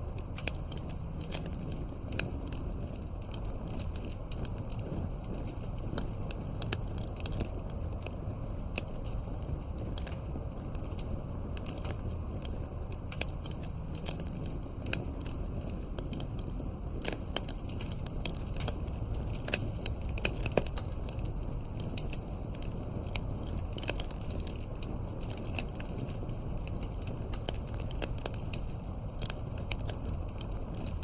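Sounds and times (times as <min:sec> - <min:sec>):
campfire crackling: 0:00.0 - 0:31.0
low rumble of flames: 0:00.0 - 0:31.0.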